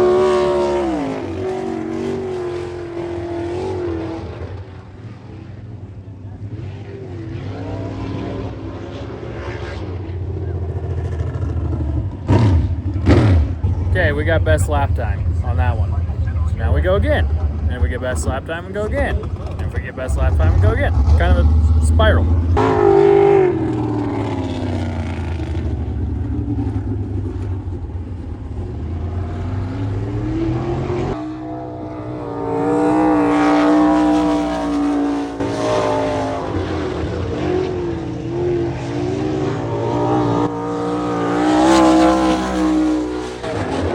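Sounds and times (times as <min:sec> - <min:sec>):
race car engine on track: 0:00.0 - 0:43.9.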